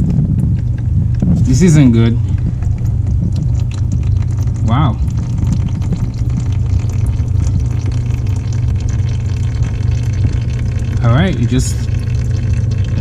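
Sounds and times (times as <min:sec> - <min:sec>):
oil trickling into plastic pan: 0:00.0 - 0:13.0
steady low rumble: 0:00.0 - 0:13.0.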